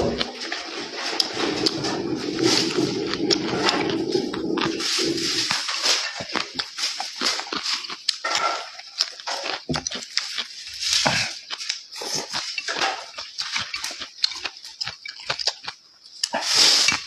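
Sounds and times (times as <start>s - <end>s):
person chewing and slurping: 0.0s - 17.0s.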